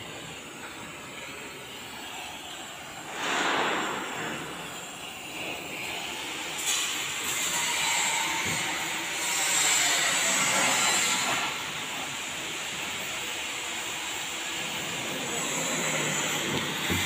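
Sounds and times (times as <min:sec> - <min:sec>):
welding hiss: 0:00.0 - 0:17.0.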